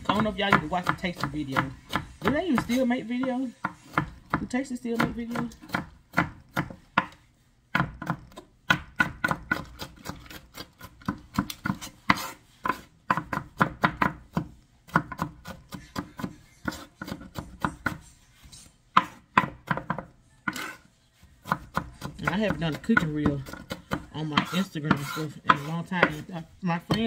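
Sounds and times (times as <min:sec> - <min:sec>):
knife chopping on cutting board: 0:00.0 - 0:27.0.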